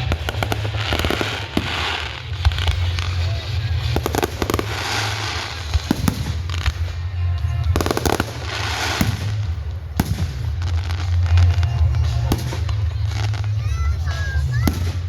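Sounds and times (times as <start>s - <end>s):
firework bangs: 0.0s - 15.0s
fireworks crackling pops: 0.0s - 15.0s.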